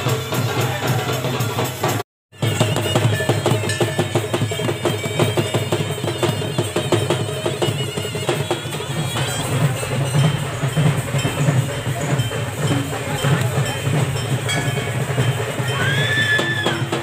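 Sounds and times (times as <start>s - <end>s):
hand drums beating fast rhythm: 0.0s - 17.0s.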